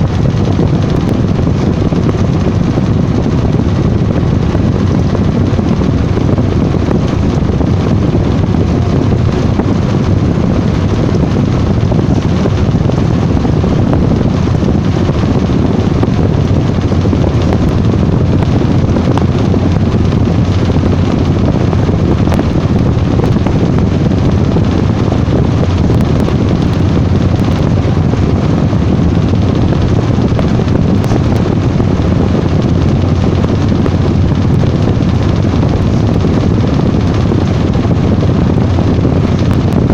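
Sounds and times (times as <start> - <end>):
washing machine rumbling whir: 0.0 - 39.9.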